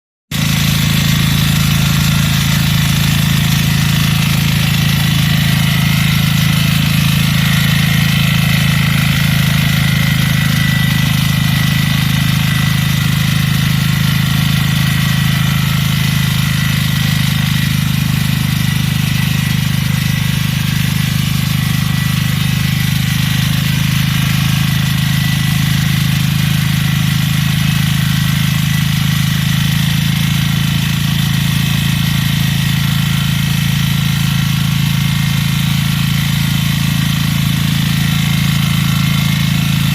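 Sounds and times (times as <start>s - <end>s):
small engine running: 0.3s - 39.9s.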